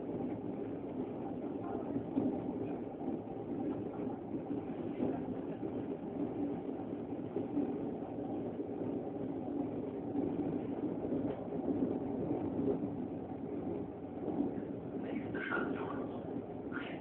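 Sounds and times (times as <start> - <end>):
train rumble inside carriage: 0.0 - 17.0.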